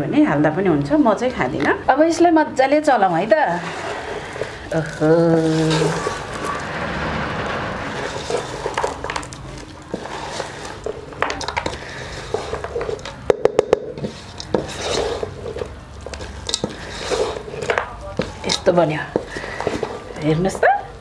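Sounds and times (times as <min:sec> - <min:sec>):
wooden spoon scraping metal pot: 0:03.1 - 0:13.3, 0:13.9 - 0:20.7.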